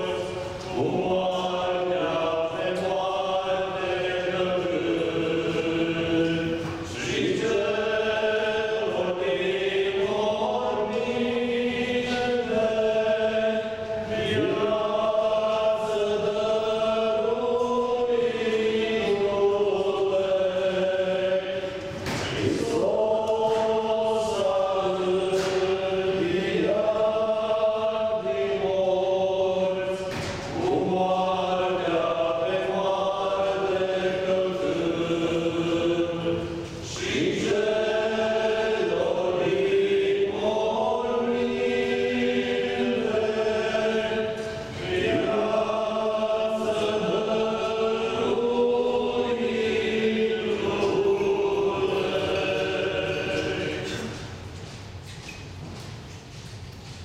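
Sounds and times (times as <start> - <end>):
choir chanting a hymn: 0.0 - 55.0.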